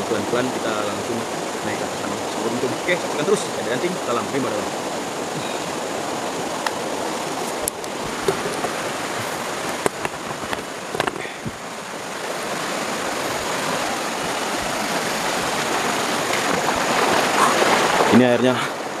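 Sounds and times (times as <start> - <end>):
fast-flowing river rushing: 0.0 - 19.0.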